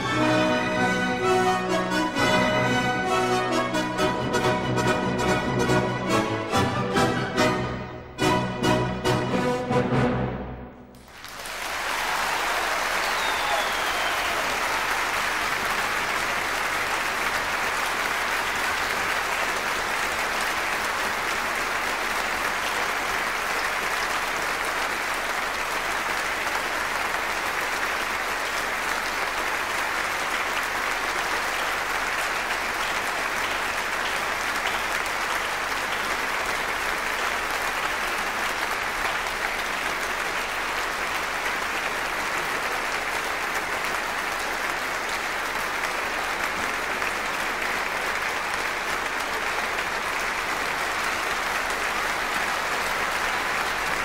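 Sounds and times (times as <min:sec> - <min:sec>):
audience applauding: 0:00.0 - 0:07.7, 0:10.9 - 0:54.0.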